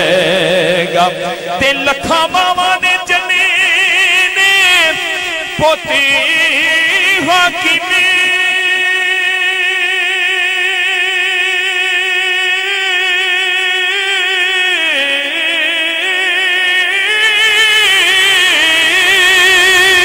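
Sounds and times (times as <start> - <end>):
man singing a long held note: 0.0 - 20.0.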